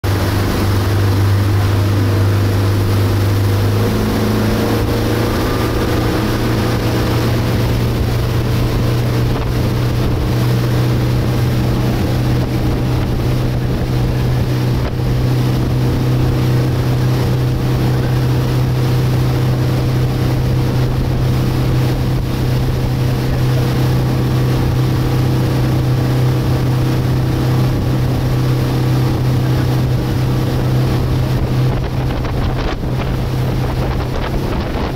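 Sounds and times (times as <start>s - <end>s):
outboard motor drone: 0.0s - 34.9s
water rushing from wake: 0.0s - 34.9s.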